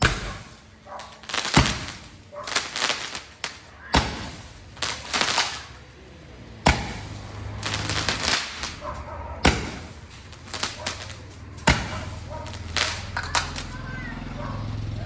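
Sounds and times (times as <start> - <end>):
firework bangs: 0.0 - 15.0
firework crackling: 0.0 - 15.0.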